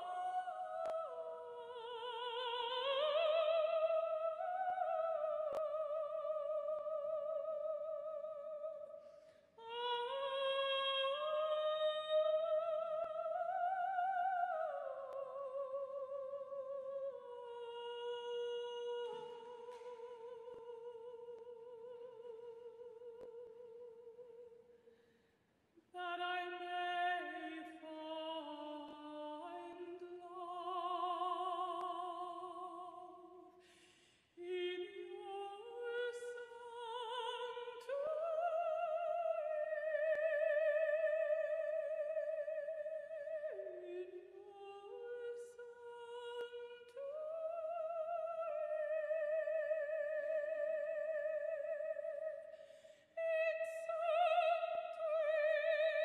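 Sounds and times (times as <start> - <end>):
person singing with vibrato: 0.0 - 24.9, 25.8 - 56.0.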